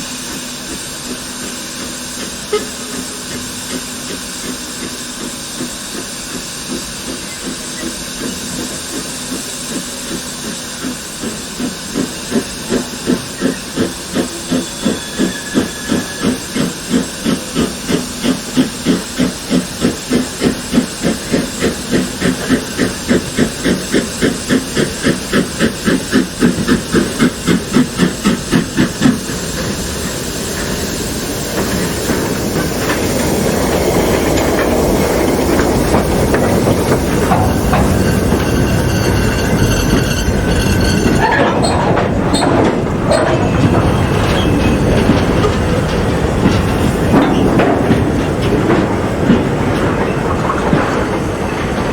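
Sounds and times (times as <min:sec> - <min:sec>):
steam hissing: 0:00.0 - 0:50.4
steam locomotive exhaust chuffs: 0:00.0 - 0:51.9
train wheels rumbling on rails: 0:00.0 - 0:51.9.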